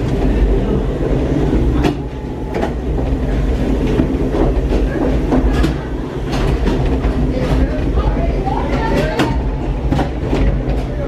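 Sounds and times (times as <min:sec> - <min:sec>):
tram low rumble: 0:00.0 - 0:11.0.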